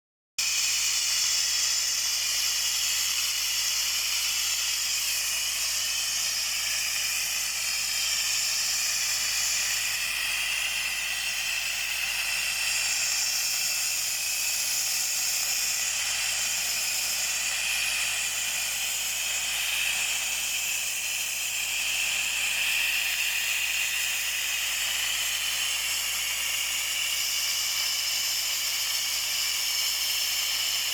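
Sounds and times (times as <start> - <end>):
sandblasting nozzle hissing: 0.4 - 30.9.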